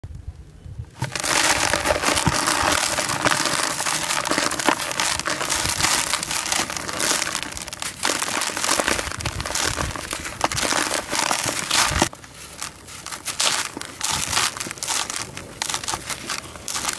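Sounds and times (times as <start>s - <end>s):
grains falling into plastic tub: 1.0s - 16.9s
hands crushing dry cement block: 1.0s - 16.9s.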